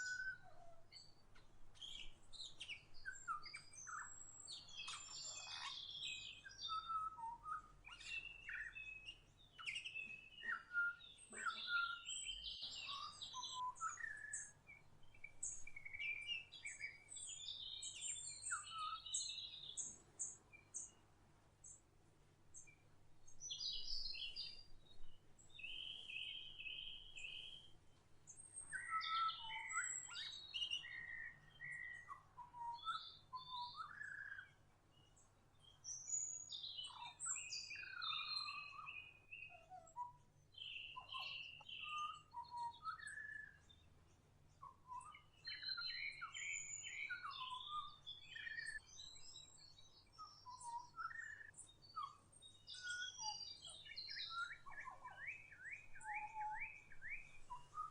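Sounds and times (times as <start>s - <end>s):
songbirds chirping and singing: 0.0s - 21.9s, 22.5s - 57.9s.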